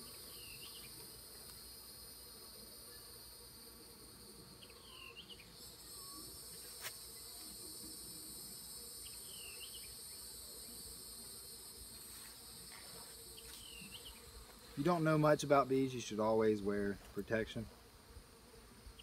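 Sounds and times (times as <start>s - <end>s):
high insect drone: 0.0s - 19.0s
honeybees humming: 0.0s - 19.0s.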